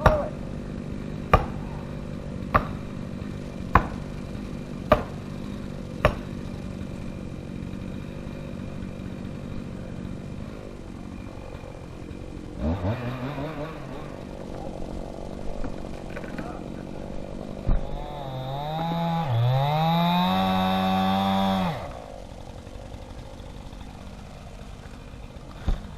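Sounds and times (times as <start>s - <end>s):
engine running: 0.0s - 25.9s.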